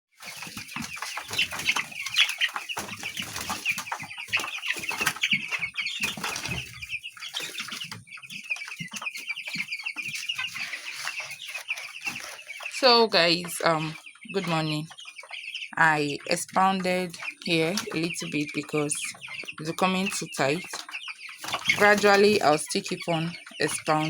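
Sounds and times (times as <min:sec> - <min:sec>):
chicks peeping: 0:00.2 - 0:24.0.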